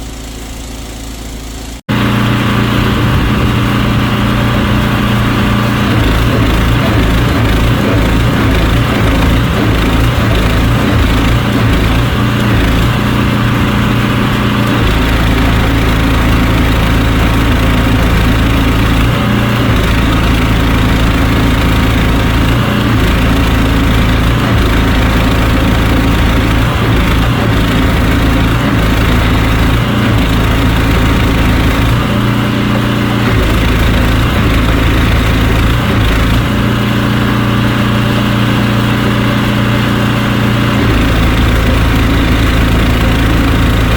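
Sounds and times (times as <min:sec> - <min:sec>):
drain-clearing machine droning: 0:00.0 - 0:43.9.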